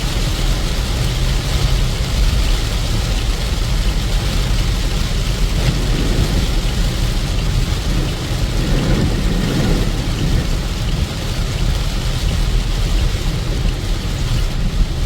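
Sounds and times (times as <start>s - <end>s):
continuous low rumble: 0.0s - 15.0s
heavy rain: 0.0s - 15.0s.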